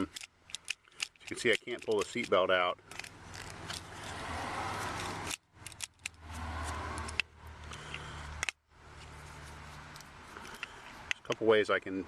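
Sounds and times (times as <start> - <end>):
seatbelt retractor clicking and rustling: 0.0 - 11.5.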